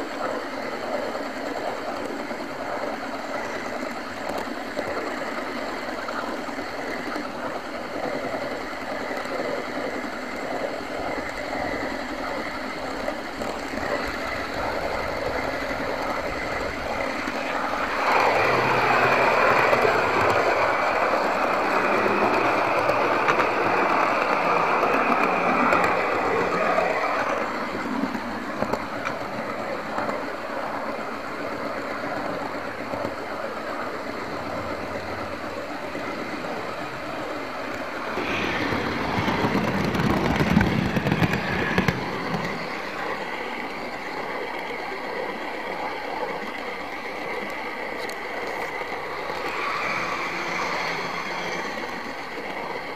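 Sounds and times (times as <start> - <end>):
model train on track: 0.0 - 52.9.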